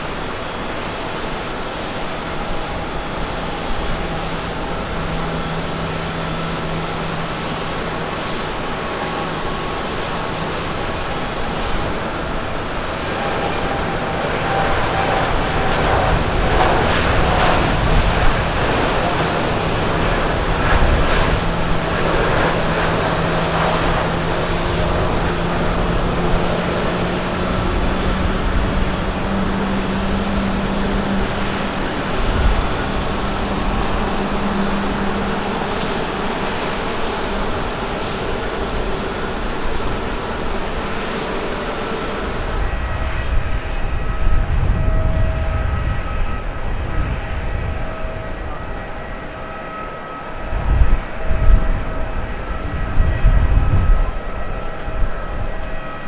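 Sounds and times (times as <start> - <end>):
jet roar at takeoff: 0.0 - 56.0
jet whine taxiing: 0.0 - 56.0.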